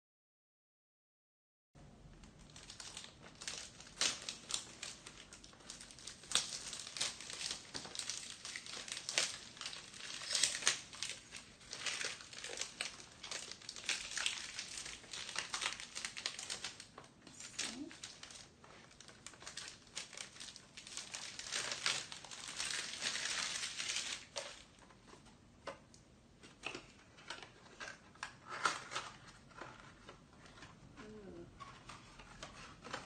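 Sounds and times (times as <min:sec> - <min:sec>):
cellophane crinkling and tearing: 0:02.2 - 0:25.8, 0:26.4 - 0:33.0.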